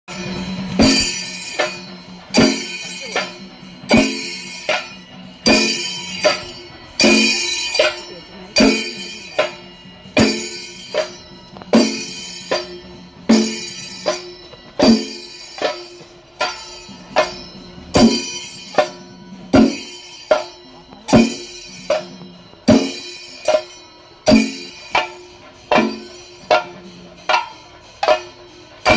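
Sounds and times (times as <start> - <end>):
slow ringing percussion beat: 0.1 - 28.9.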